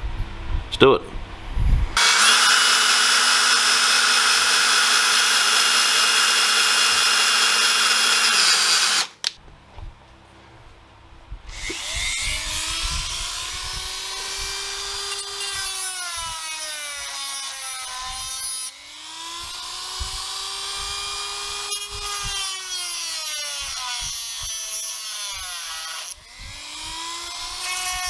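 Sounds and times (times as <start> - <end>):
drill boring metal: 2.0 - 9.1, 11.5 - 28.0
rotary tool grinding: 2.0 - 9.2, 11.5 - 28.0.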